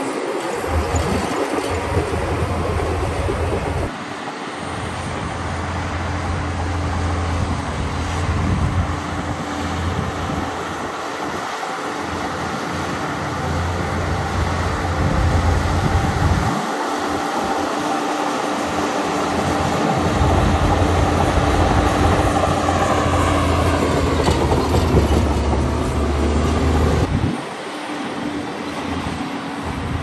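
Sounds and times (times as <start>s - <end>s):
bulldozer engine and tracks: 0.0s - 30.0s.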